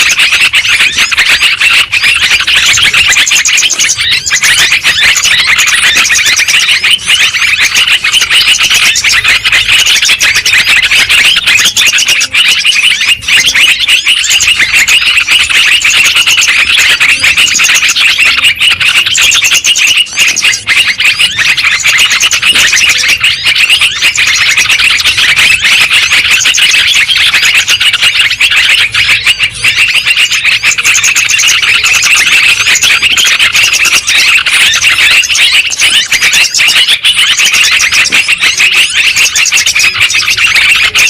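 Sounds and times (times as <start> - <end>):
bulbuls chattering: 0.0 - 41.0.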